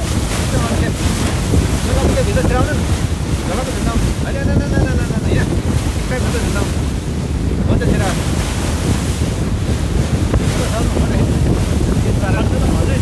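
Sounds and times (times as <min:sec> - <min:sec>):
boat engine low rumble: 0:00.0 - 0:13.0
water rushing against hull: 0:00.0 - 0:13.0
wind buffeting microphone: 0:00.0 - 0:13.0.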